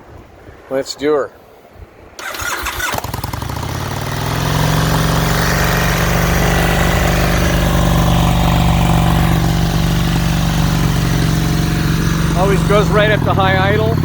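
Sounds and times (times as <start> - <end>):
motorcycle engine starting and idling: 2.2 - 14.0.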